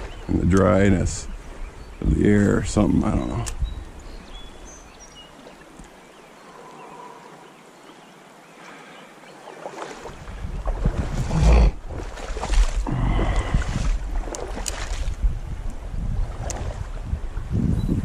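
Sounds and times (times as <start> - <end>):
stream flowing: 0.0 - 17.6.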